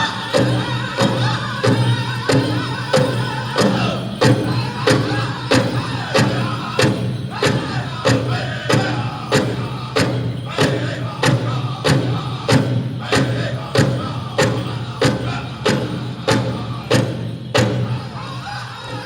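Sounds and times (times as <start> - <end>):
large hand drum beat: 0.0 - 18.4
several voices singing: 0.0 - 19.0.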